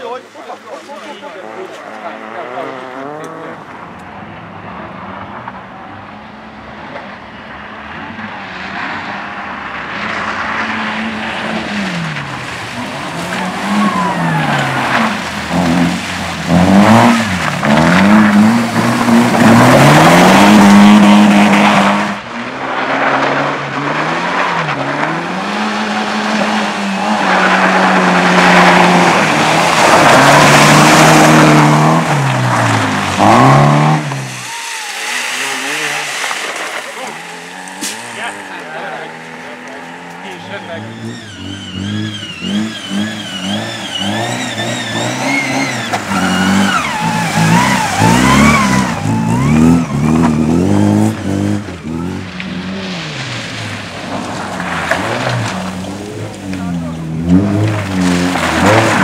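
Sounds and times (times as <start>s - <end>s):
rally car engine revving: 0.0s - 59.0s
wheels spinning in mud: 7.6s - 59.0s.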